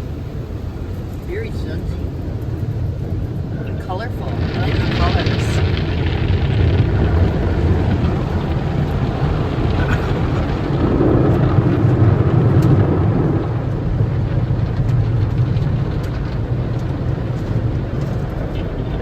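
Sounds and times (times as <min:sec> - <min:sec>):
car wash low rumble: 0:00.0 - 0:19.0
water rushing like rain: 0:00.0 - 0:19.0.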